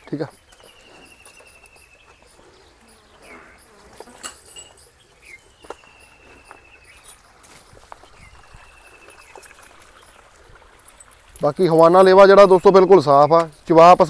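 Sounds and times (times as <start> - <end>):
farmyard ambience: 0.0 - 14.0.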